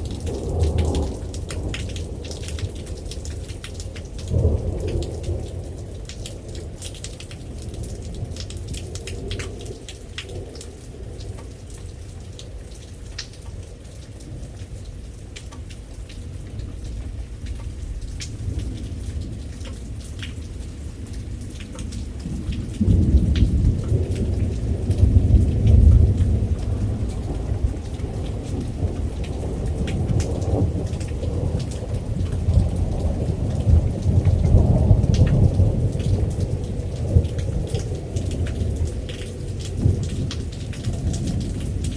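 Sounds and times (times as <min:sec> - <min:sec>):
rolling thunder: 0:00.0 - 0:10.6, 0:17.7 - 0:41.9
steady rain: 0:00.0 - 0:41.9.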